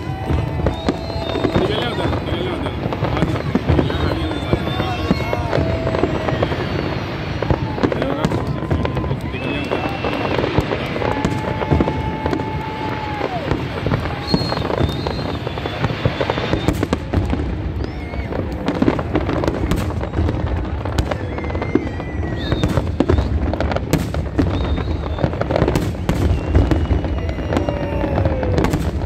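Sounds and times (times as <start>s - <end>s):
fireworks bursts and crackles: 0.0s - 29.0s.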